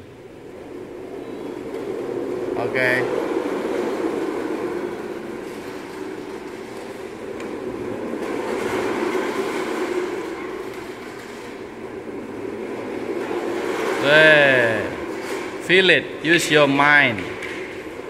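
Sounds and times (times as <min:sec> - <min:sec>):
wheels rolling on tiled floor: 0:00.0 - 0:18.0.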